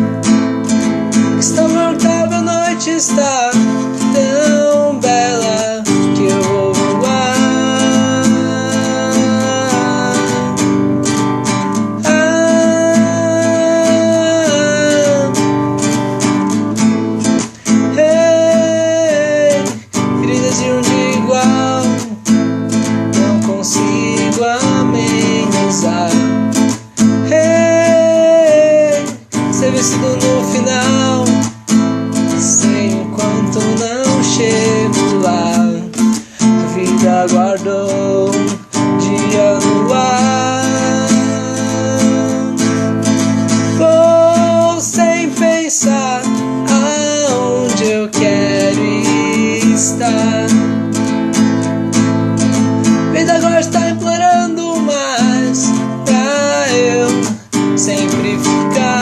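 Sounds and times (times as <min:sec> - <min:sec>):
bending melody line: 0:00.0 - 0:59.0
song with acoustic guitar strumming: 0:00.0 - 0:59.0.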